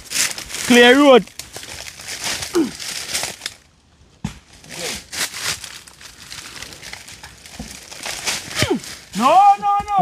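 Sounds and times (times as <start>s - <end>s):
dry palm fronds rustling: 0.0s - 3.8s, 4.4s - 10.0s.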